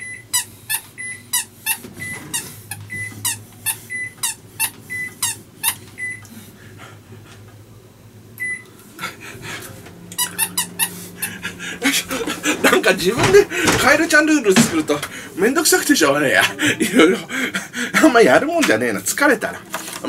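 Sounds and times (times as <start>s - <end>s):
microwave oven humming: 0.0s - 20.0s.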